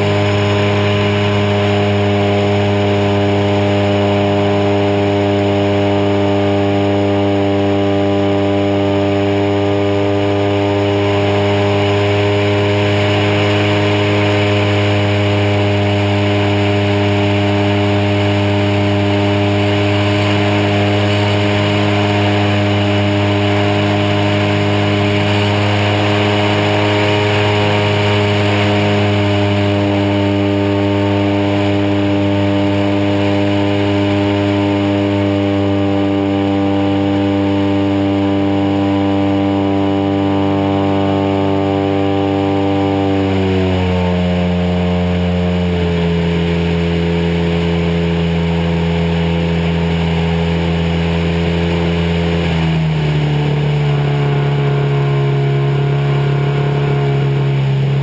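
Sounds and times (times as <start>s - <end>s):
model plane engine running: 0.0s - 58.0s
propeller drone: 0.0s - 58.0s.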